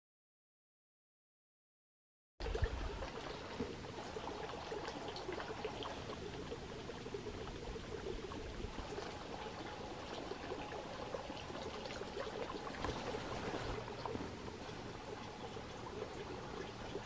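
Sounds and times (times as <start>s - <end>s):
water trickling and bubbling: 2.4s - 17.0s.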